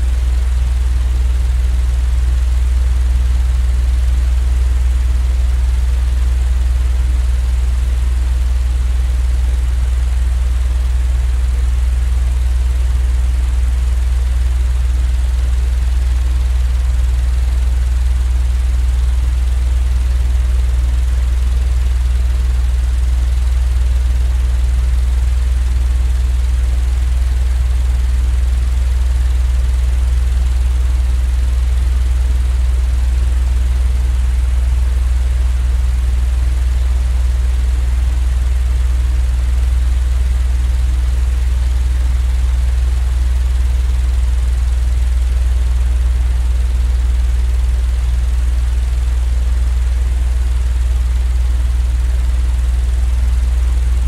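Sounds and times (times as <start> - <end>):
low rumbling hum: 0.0 - 54.0.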